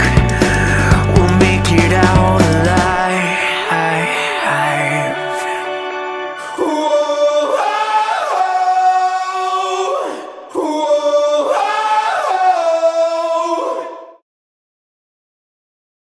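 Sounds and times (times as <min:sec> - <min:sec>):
choir-like vocal soundtrack music: 0:00.0 - 0:14.2.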